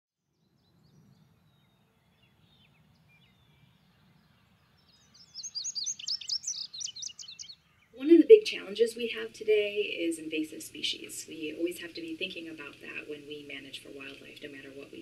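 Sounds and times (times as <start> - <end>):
songbird chirping: 0.3 - 15.0.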